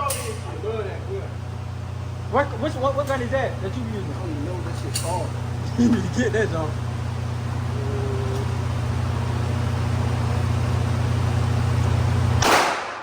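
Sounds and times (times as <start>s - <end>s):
low rumbling hum: 0.0s - 12.6s.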